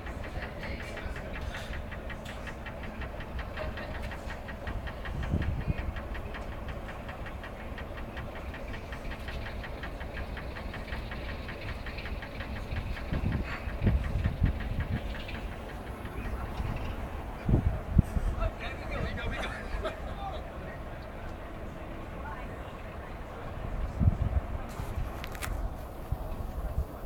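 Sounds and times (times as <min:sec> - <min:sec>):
diesel locomotive engine idling: 0:00.0 - 0:27.0.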